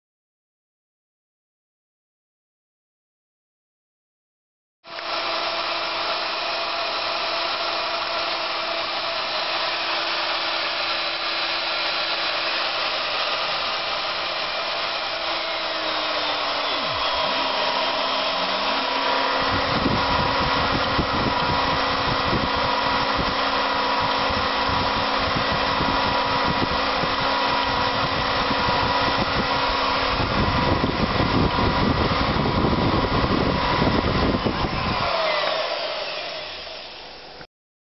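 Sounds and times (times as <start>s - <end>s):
router motor whining: 4.9s - 37.5s.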